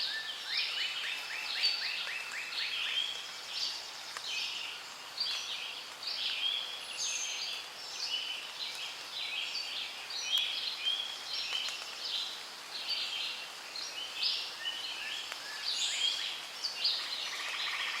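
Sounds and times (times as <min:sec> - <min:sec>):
many birds chirping: 0:00.0 - 0:18.0.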